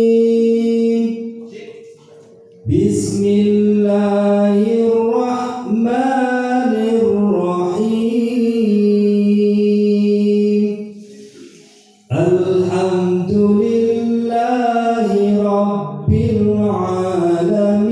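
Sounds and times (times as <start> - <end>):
man reciting melodically into microphone: 0.0 - 17.9.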